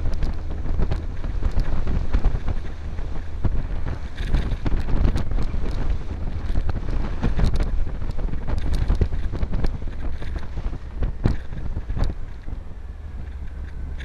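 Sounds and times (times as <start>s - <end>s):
vehicle engine running: 0.0s - 14.0s
wind buffeting microphone: 0.0s - 14.0s.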